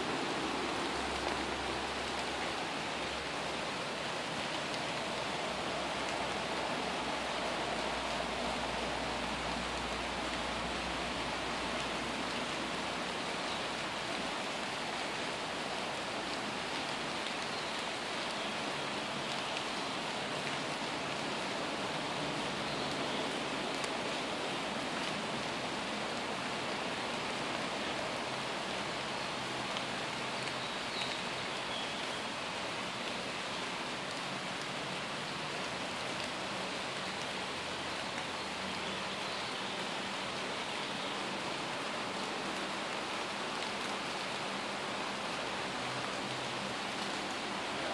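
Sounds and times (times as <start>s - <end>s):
rain on foliage: 0.0s - 47.9s.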